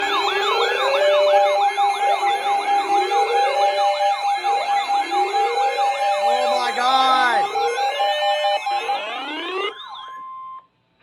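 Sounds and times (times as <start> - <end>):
emergency sirens yelping and wailing: 0.0 - 10.1.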